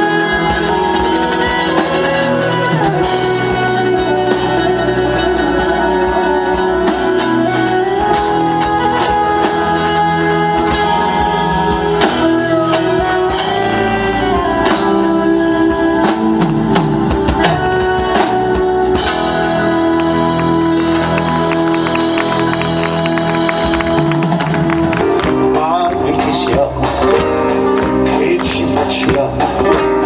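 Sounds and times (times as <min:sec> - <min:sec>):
electric guitar: 0:00.0 - 0:30.0
harmonica bending long notes: 0:00.0 - 0:30.0.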